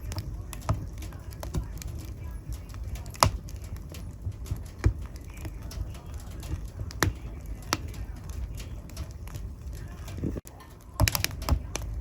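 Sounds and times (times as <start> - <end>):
low sound of flames: 0.0 - 12.0
wood fire crackling: 0.0 - 12.0.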